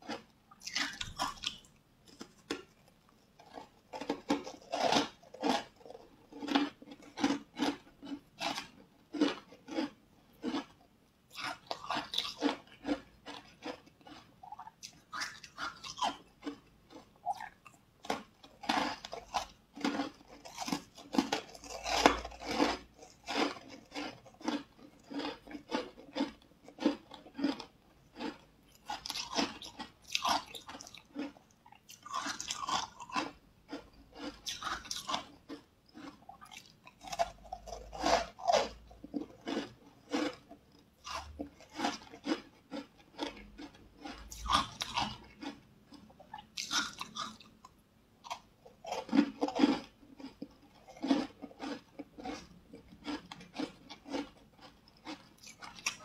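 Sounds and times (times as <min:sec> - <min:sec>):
chewing and crunching snack: 0:00.0 - 0:56.0.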